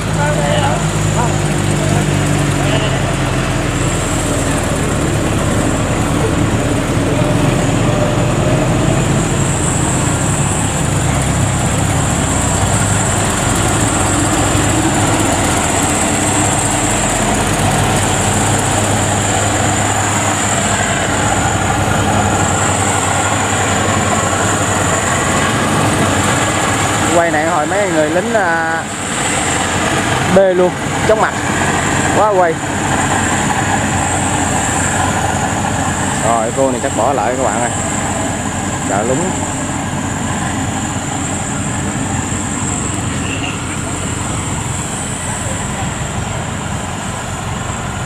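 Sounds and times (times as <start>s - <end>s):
combine harvester engine drone: 0.0s - 48.0s.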